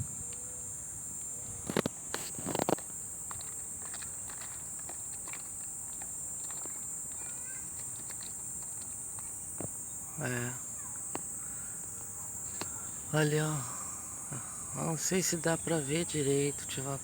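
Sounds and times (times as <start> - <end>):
insects chorus shrill drone: 0.0 - 17.0
faint ticks: 1.2 - 15.1.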